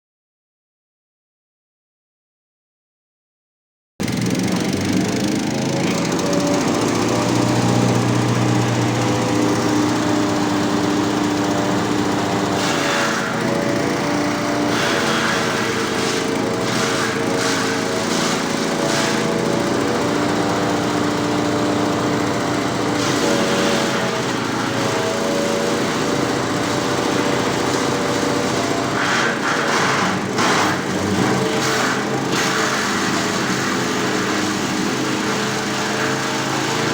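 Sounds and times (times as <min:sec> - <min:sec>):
wood chipper engine running: 0:04.0 - 0:36.9.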